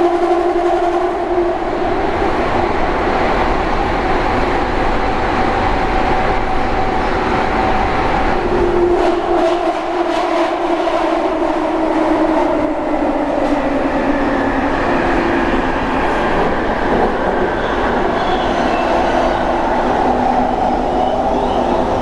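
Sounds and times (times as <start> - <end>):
rumble of train wheels on rail: 0.0 - 22.0.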